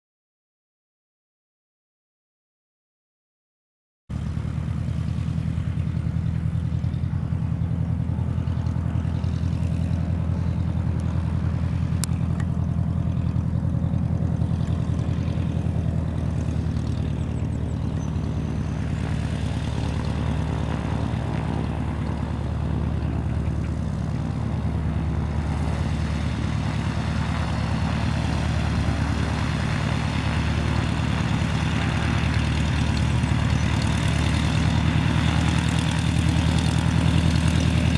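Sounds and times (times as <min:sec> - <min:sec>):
propeller plane engine drone: 0:04.1 - 0:37.9.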